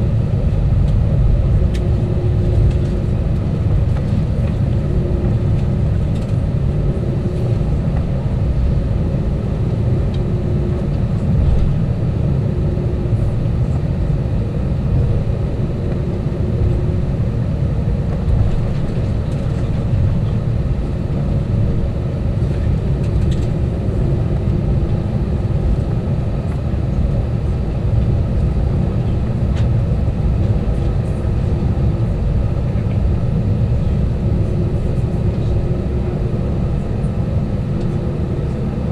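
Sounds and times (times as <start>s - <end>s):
airplane engines and airflow in cabin: 0.0s - 38.9s
faint hum: 0.0s - 38.9s.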